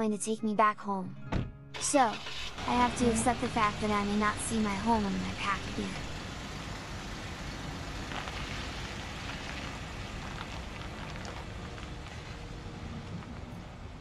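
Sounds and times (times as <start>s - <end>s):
car engine and tyre noise: 1.8s - 14.0s.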